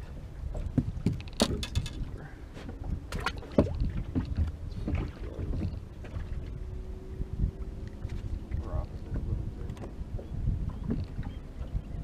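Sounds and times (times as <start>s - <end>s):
knocks and clatters on boat: 0.0s - 12.0s
water on boat hull: 0.0s - 12.0s
wind on microphone: 0.0s - 12.0s.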